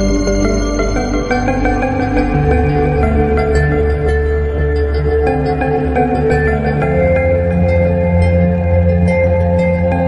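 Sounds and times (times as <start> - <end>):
calm ambient synth music: 0.0 - 10.0.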